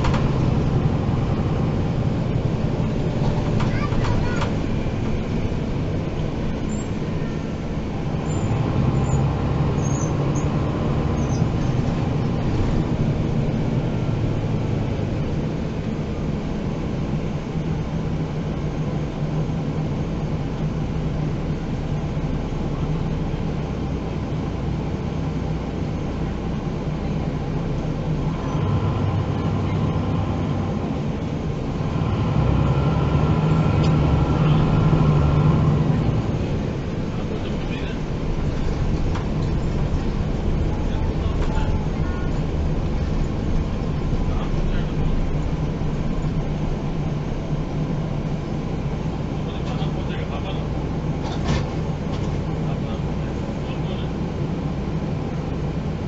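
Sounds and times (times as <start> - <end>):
bus diesel engine droning: 0.0 - 56.0
road and tyre noise: 0.0 - 56.0.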